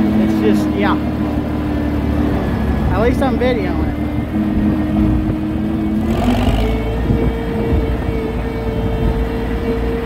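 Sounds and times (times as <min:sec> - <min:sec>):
steady whine: 0:00.0 - 0:10.0
tractor engine running: 0:00.0 - 0:10.0.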